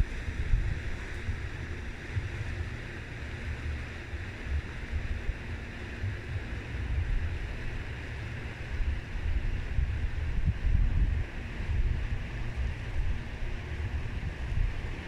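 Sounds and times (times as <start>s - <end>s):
wind buffeting microphone: 0.0s - 15.0s
wind hiss: 0.0s - 15.0s.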